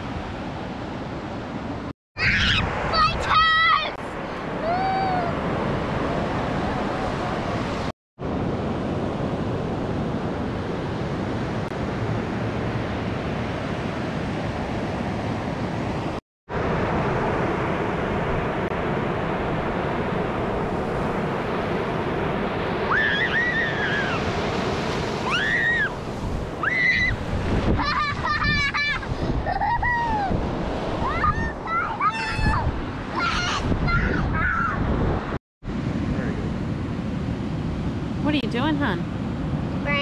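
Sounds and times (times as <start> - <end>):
ocean surf breaking on beach: 0.0 - 40.0.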